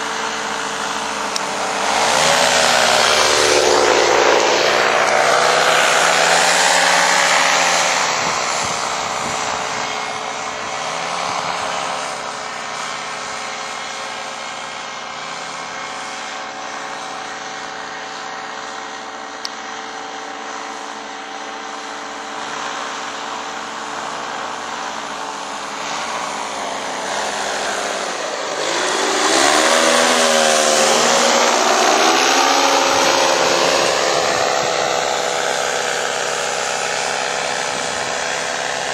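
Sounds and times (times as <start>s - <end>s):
paramotor engine droning: 0.0s - 38.9s.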